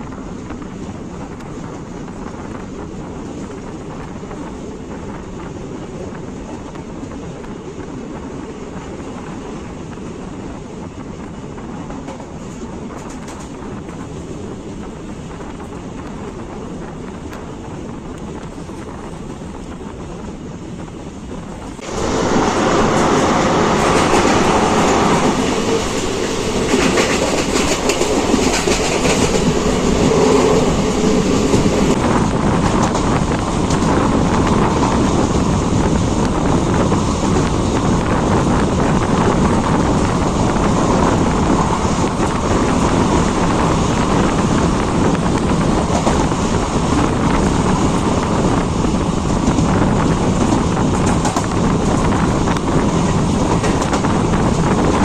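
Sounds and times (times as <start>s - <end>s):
train wheels clattering on track: 0.0s - 55.0s.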